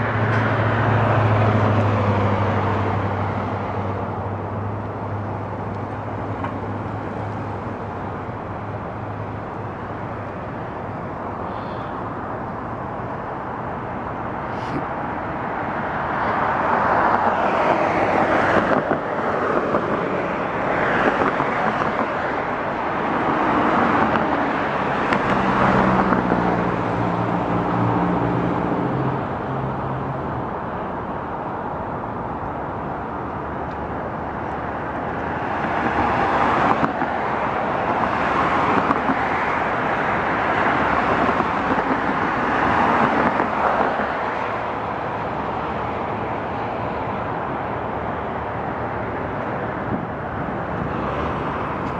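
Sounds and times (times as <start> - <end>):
cars passing on road: 0.0 - 51.9.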